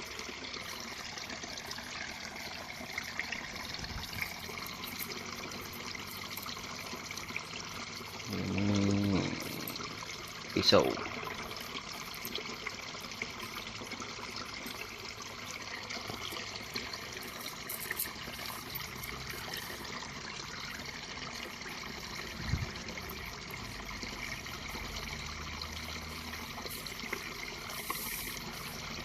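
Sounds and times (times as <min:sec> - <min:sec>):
water trickling: 0:00.0 - 0:29.0.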